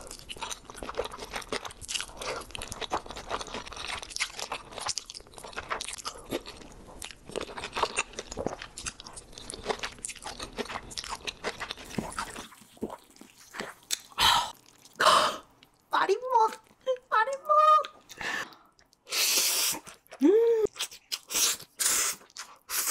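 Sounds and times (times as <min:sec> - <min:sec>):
slurping and chewing noodles: 0:00.0 - 0:15.9, 0:18.0 - 0:22.9.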